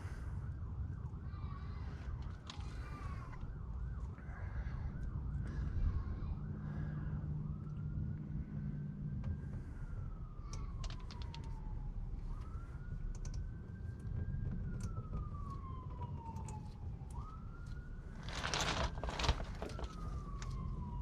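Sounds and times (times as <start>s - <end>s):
emergency vehicle siren: 0.0s - 21.0s
low rumble: 0.0s - 21.0s.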